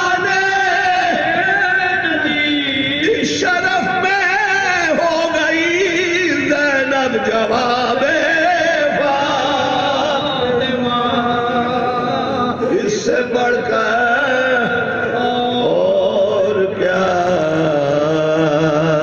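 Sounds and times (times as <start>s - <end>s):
men chanting unaccompanied: 0.0s - 19.0s.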